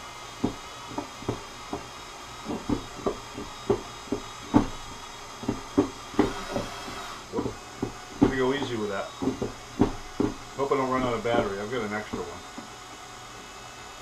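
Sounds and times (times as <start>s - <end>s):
drill motor: 0.0s - 14.0s.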